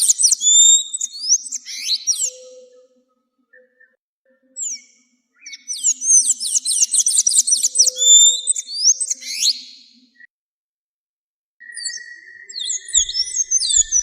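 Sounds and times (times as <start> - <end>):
songbird singing: 0.0 - 10.3, 11.6 - 14.0.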